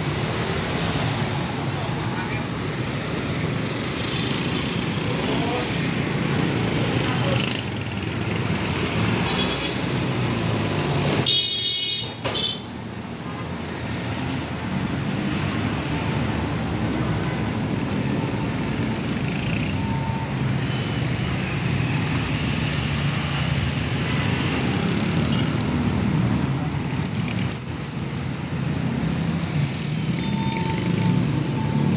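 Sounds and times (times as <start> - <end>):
traffic rumble: 0.0 - 11.4, 12.0 - 31.9.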